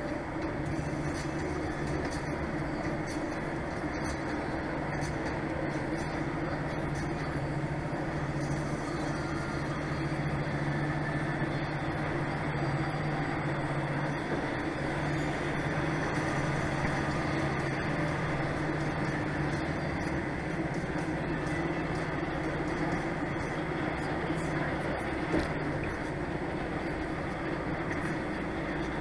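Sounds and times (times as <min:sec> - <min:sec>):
truck diesel engine droning: 0:00.0 - 0:29.0
tyre and road noise: 0:00.0 - 0:29.0.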